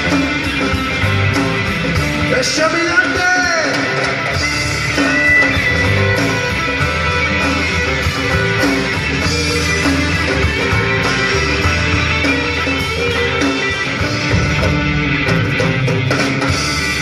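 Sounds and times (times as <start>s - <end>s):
bass and drums: 0.0s - 17.0s
electric guitar: 0.0s - 17.0s.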